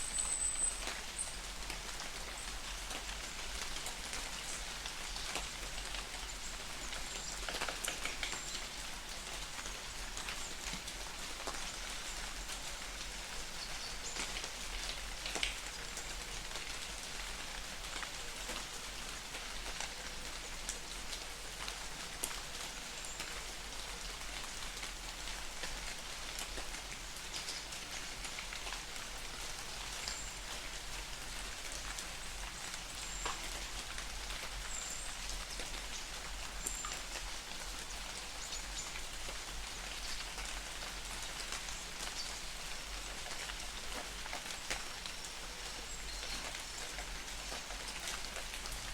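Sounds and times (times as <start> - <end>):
light rain pattering: 0.0 - 48.9.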